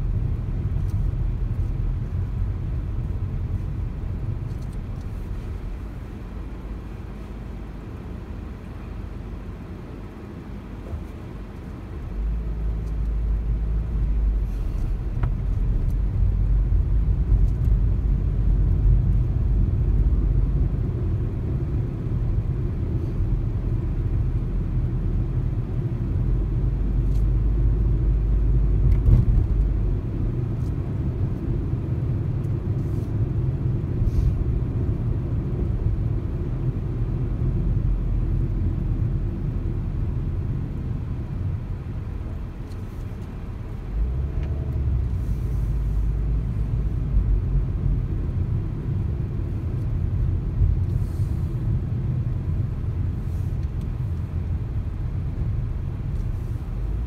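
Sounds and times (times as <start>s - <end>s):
car engine: 0.0s - 57.0s
road and tyre noise: 0.0s - 57.0s.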